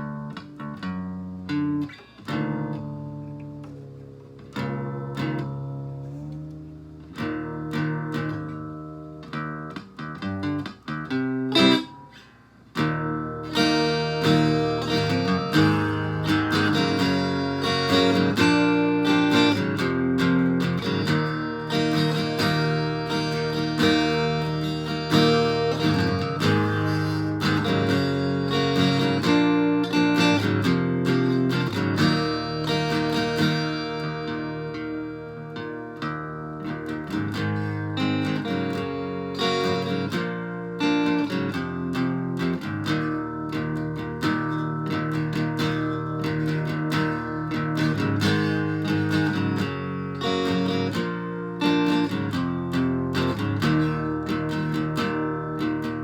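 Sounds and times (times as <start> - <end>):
distorted guitar strumming chords: 0.0 - 56.0.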